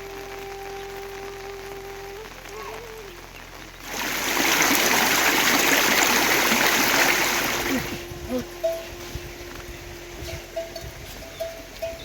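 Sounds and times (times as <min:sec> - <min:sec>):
rushing stream water: 0:00.0 - 0:12.0.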